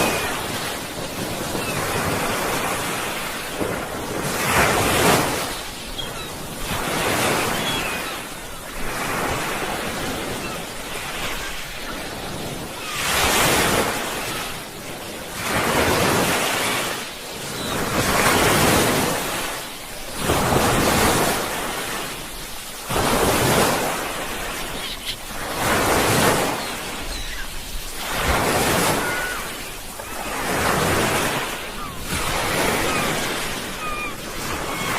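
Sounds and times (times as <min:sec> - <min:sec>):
sea waves breaking on shore: 0:00.0 - 0:34.9.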